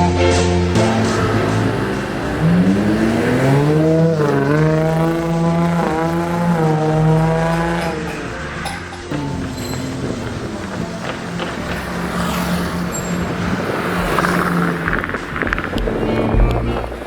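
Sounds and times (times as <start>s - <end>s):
car engine revving through loud exhaust: 0.3s - 17.0s.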